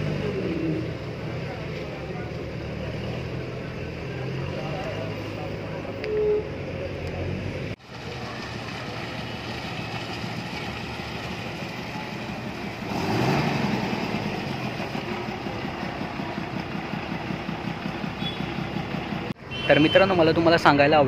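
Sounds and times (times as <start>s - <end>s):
bus diesel engine idling: 0.0s - 21.0s.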